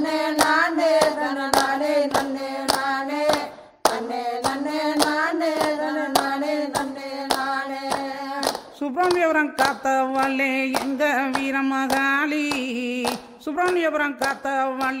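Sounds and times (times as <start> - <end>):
crowd clapping in time: 0.0 - 15.0
person singing devotional song: 0.0 - 15.0.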